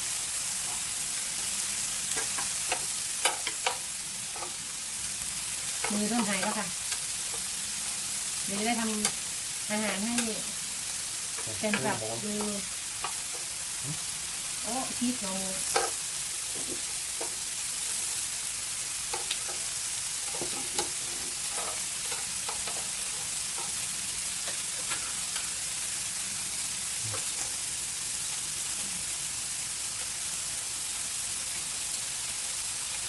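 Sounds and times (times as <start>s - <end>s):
meat sizzling: 0.0s - 33.0s.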